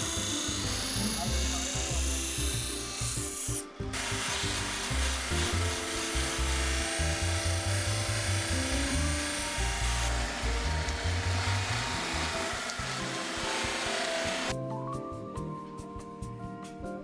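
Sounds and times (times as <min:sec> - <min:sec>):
blade grinding on grinding wheel: 0:00.0 - 0:14.5
background music: 0:00.0 - 0:17.0.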